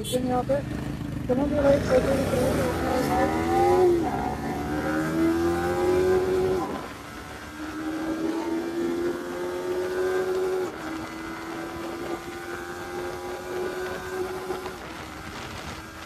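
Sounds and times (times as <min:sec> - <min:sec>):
motorcycle engine under load: 0:00.0 - 0:16.0.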